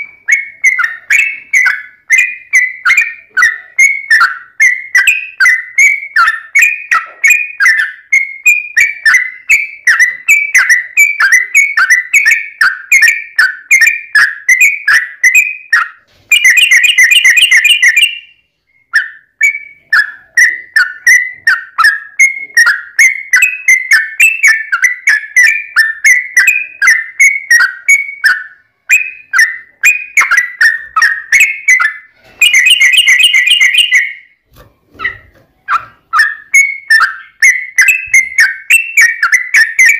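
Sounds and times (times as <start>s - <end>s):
bird whistled notes: 0.0s - 39.9s.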